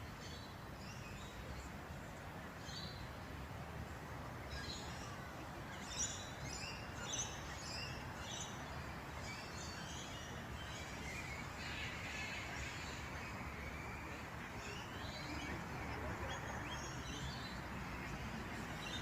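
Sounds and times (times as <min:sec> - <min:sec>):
low steady background noise: 0:00.0 - 0:19.0.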